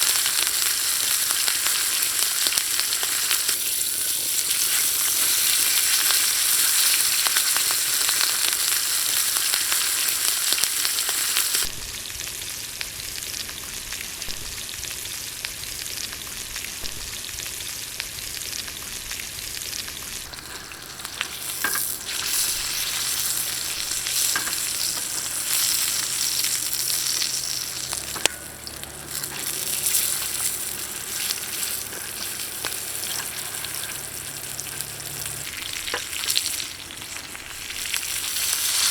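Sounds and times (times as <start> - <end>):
wood fire crackling: 0.0 - 16.2, 16.8 - 38.9
steak sizzling on a griddle: 0.0 - 38.9.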